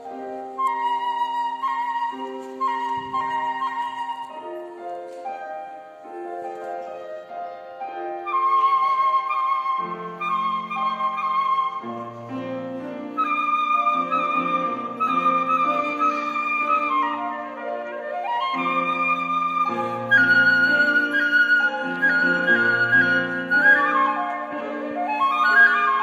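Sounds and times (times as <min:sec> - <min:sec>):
flute melody with vibrato: 0:00.0 - 0:26.0
piano accompaniment: 0:00.0 - 0:26.0.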